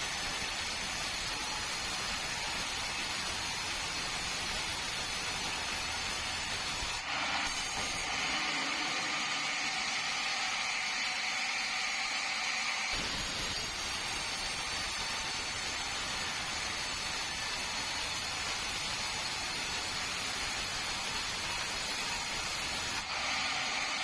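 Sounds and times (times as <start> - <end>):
sawmill saw cutting log: 0.0 - 24.0.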